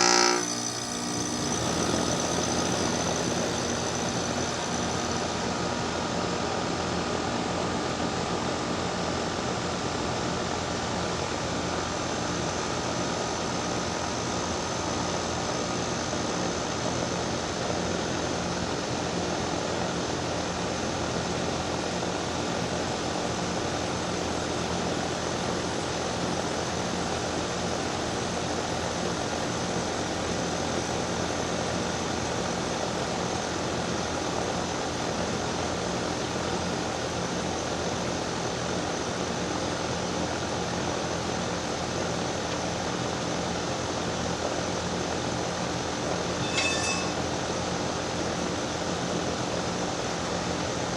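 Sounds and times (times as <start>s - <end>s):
compressor hum and whine: 0.0s - 50.9s.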